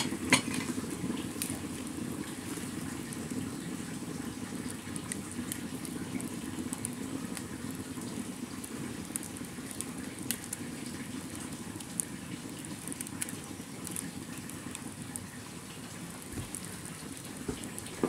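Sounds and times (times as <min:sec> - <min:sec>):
burning wood crackling: 0:00.0 - 0:18.0
wood fire rumbling: 0:00.0 - 0:18.0.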